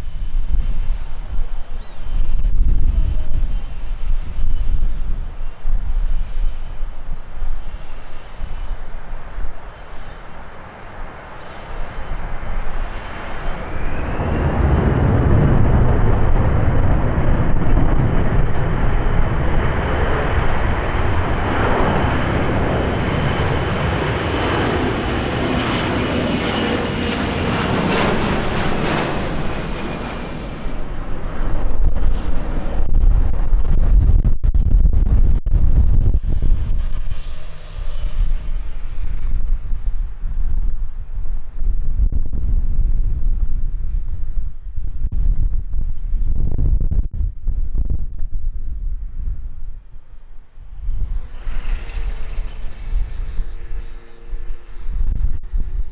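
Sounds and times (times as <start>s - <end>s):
high jet whine: 0.0s - 44.9s, 49.6s - 55.9s
jet engines rumbling: 0.0s - 55.9s
wind buffeting microphone: 0.0s - 55.9s.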